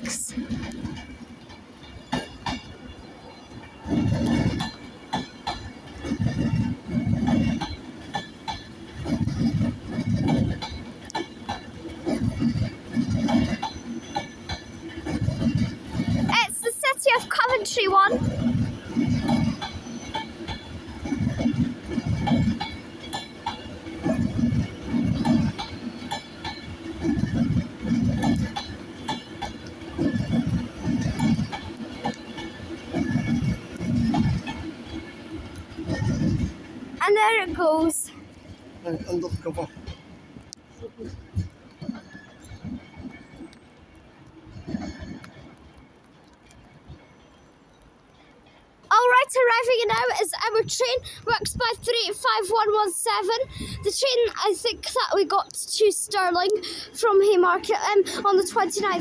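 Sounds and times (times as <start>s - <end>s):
train wheels rumbling and clanking: 0.0s - 59.0s.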